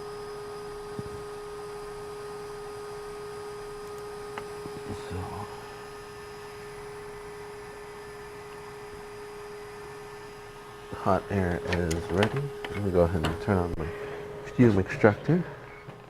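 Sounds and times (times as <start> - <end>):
hot air station hum: 0.0 - 16.0.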